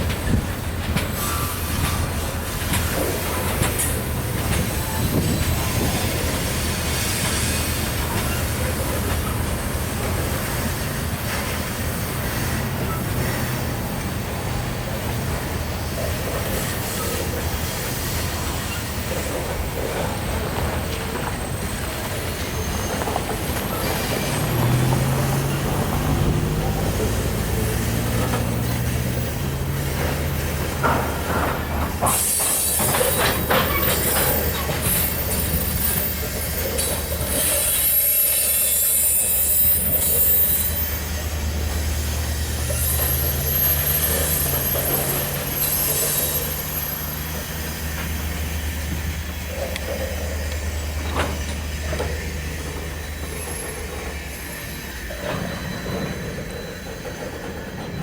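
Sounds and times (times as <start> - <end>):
locomotive engine hum: 0.0 - 58.0
wheels clicking over rail joints: 0.0 - 58.0
high wheel squeal: 1.0 - 58.0.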